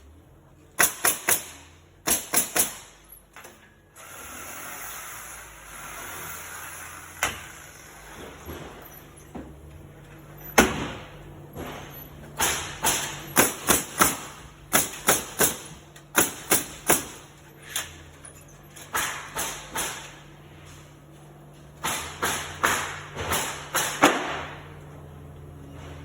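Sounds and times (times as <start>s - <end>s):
low machine hum: 0.0s - 2.3s, 2.9s - 26.0s.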